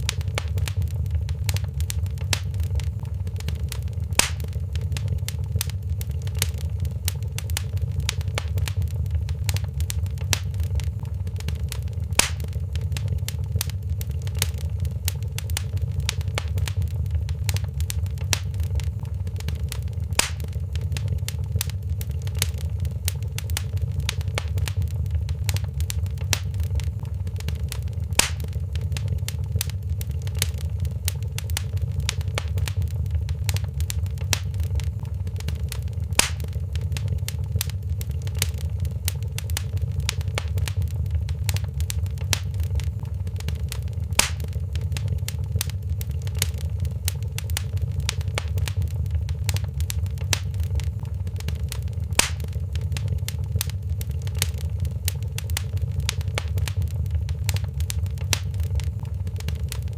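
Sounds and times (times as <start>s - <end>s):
fire snapping: 0.0s - 59.9s
low steady rumble: 0.0s - 59.9s
wood fire crackling: 0.0s - 59.9s.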